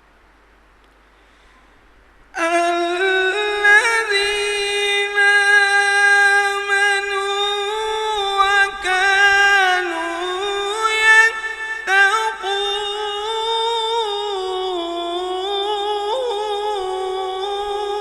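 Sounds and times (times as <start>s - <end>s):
melodic quran recitation: 2.3s - 18.0s.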